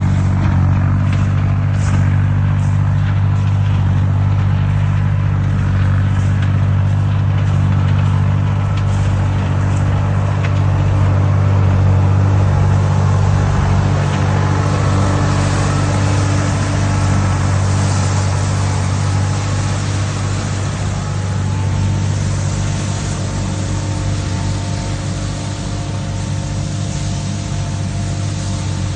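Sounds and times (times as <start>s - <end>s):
sweeper brushing noise: 0.0s - 28.9s
tractor engine running: 0.0s - 28.9s.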